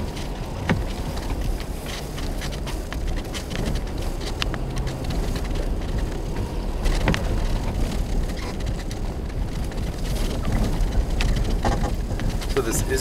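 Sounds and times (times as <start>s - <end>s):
car engine and road rumble: 0.0s - 13.0s
tyres crackling on snow: 0.0s - 13.0s.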